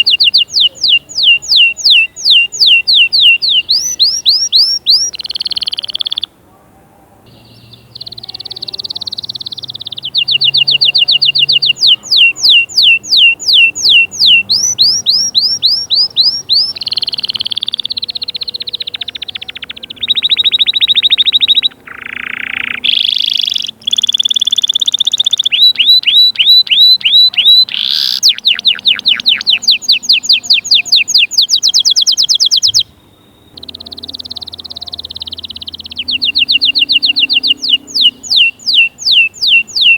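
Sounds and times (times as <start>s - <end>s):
canary singing trills: 0.0s - 6.6s, 7.2s - 39.9s.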